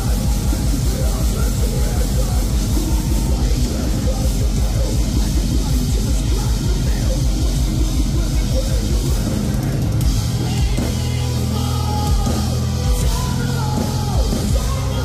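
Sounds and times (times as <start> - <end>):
metal band playing live: 0.0 - 15.0.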